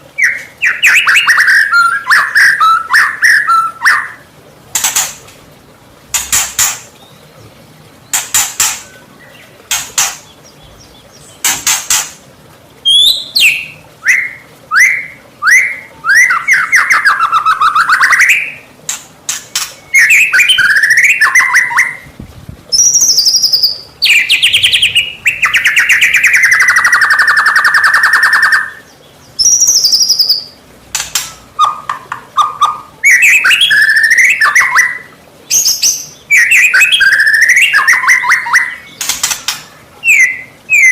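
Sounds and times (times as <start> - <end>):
bird singing varied song: 0.2 - 4.2, 6.2 - 12.0, 12.9 - 18.7, 19.3 - 22.0, 22.7 - 40.9.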